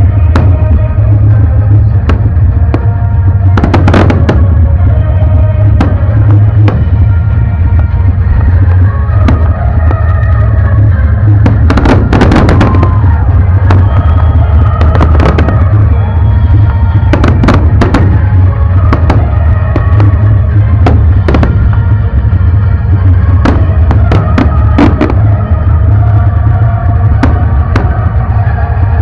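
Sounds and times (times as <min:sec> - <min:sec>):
fireworks bangs and crackles: 0:00.0 - 0:29.0
loud music with heavy bass: 0:00.0 - 0:29.0.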